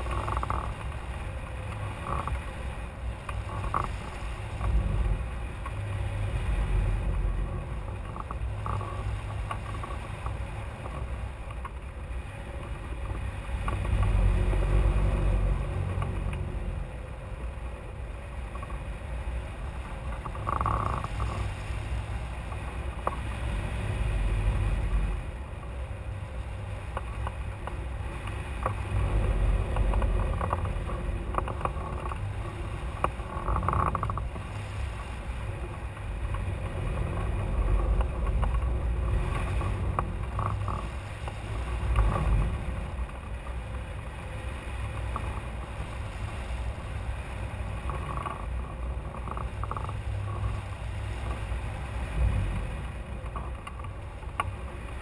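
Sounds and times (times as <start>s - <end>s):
faint ticks and rattles: 0.0s - 55.0s.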